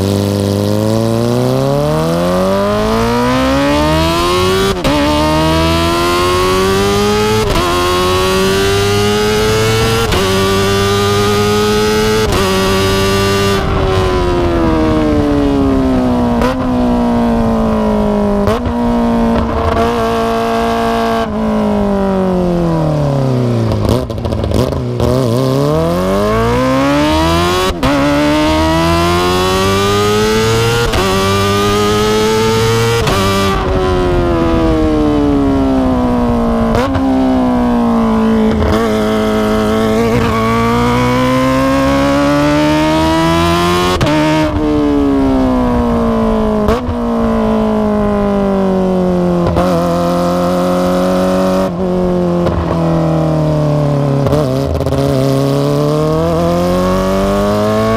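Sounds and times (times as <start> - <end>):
motorcycle engine revving through gears: 0.0 - 57.9.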